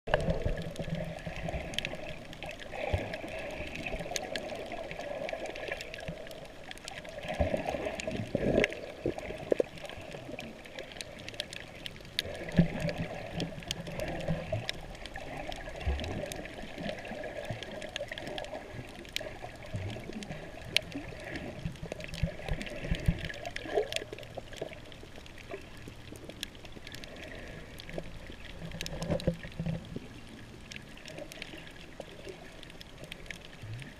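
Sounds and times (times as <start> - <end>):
underwater water sloshing: 0.1 - 33.9.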